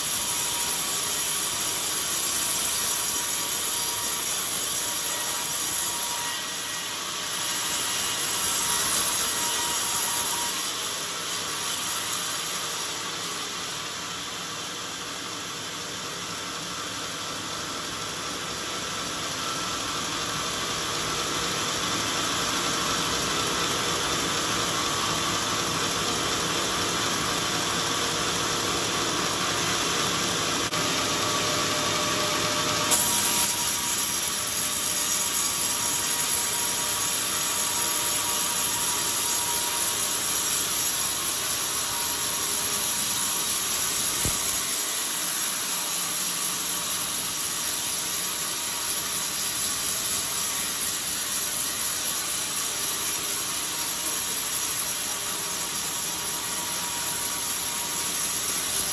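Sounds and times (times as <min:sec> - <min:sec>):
band saw cutting wood: 0:00.0 - 0:14.8, 0:18.0 - 0:58.9.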